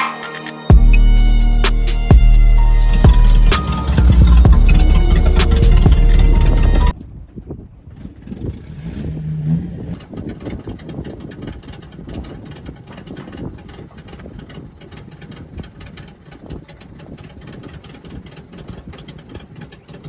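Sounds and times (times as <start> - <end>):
truck engine idling roughly: 0.7 - 6.9, 10.0 - 20.0.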